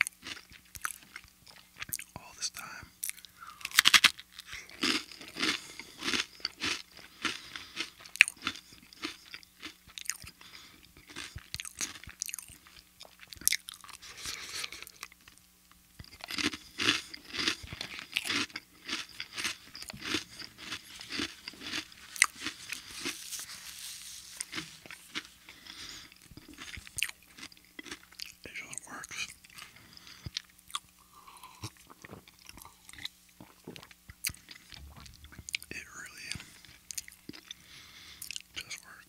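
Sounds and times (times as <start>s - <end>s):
chewing crunchy snack: 0.0s - 39.0s.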